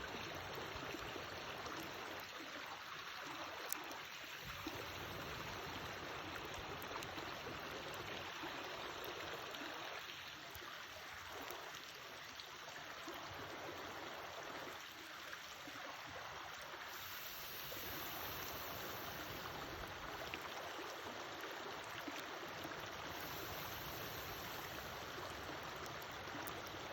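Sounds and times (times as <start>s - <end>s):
campfire crackling and hissing: 0.0s - 15.8s, 16.7s - 26.9s.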